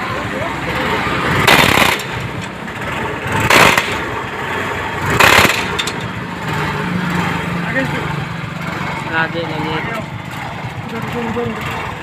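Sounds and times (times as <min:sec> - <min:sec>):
low motorcycle engine hum: 0:00.0 - 0:12.0.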